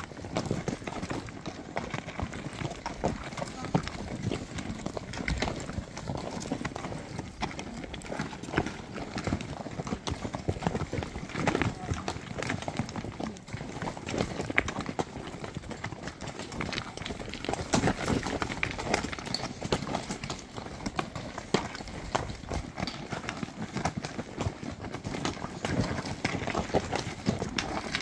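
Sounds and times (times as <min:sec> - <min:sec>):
horse hooves clopping on stones: 0:00.0 - 0:28.0.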